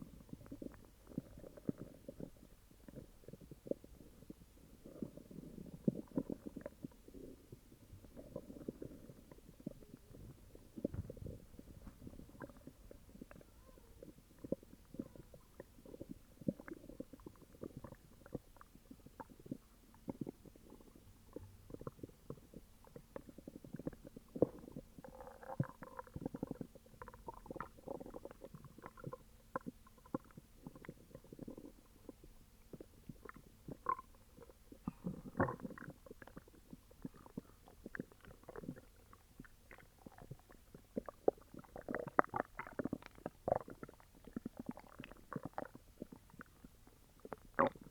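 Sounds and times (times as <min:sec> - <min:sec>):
stomach gurgling and growling: 0:00.0 - 0:47.9.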